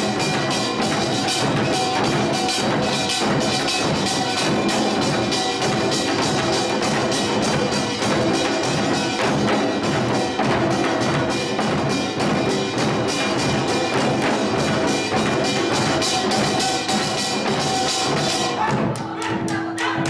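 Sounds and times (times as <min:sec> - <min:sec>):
barrel drum: 0:00.0 - 0:20.0
hourglass drums: 0:00.0 - 0:20.0
small gongs: 0:00.0 - 0:20.0.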